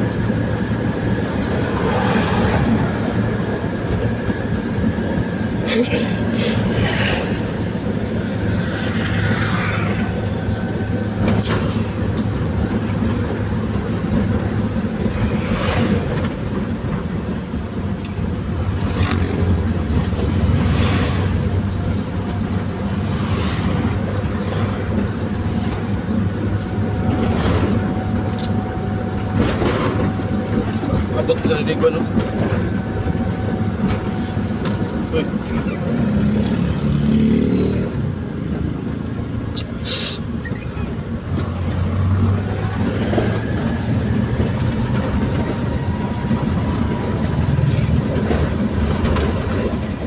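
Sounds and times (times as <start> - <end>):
passing traffic: 0.0 - 50.0
vehicle road and engine rumble: 0.0 - 50.0.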